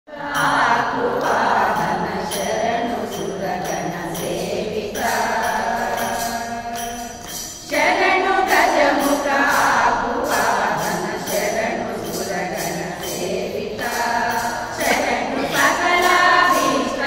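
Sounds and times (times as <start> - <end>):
women's group singing: 0.1 - 17.0
metallic jingling: 0.4 - 17.0.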